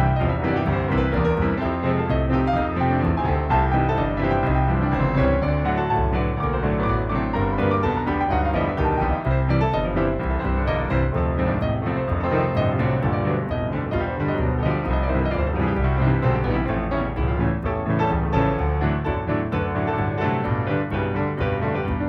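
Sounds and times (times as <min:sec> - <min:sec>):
piano background music: 0:00.0 - 0:22.0.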